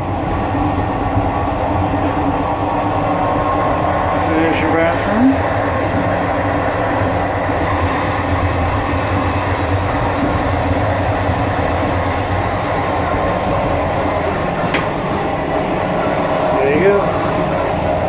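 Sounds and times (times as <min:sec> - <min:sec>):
train running rumble: 0:00.0 - 0:18.0.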